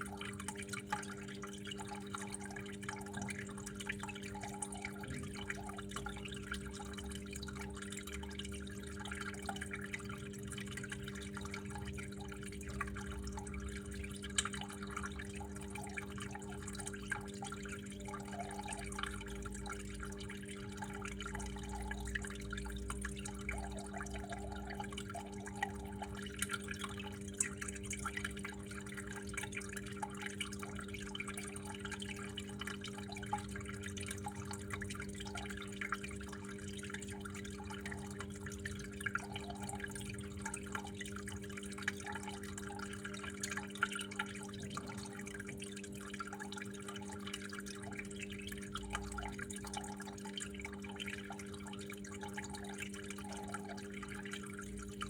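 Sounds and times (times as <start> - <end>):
constant low hum: 0.0 - 55.0
water flowing and dripping: 0.0 - 55.0.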